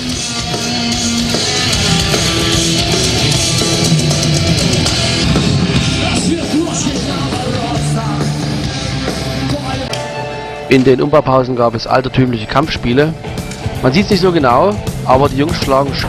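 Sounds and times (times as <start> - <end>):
drums: 0.0 - 11.0, 12.2 - 16.0
bass guitar: 0.0 - 16.0
distorted electric guitars: 0.0 - 16.0.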